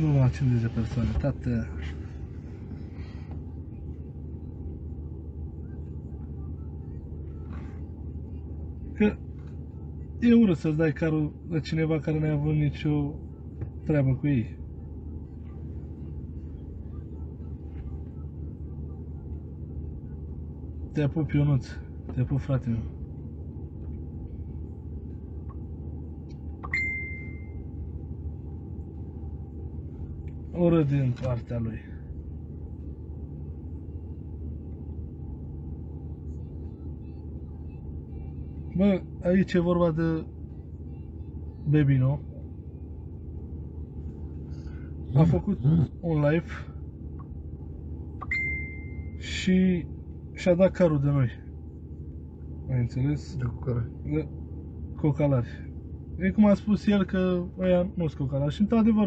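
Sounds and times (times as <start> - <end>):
car engine hum from inside: 0.0 - 59.0.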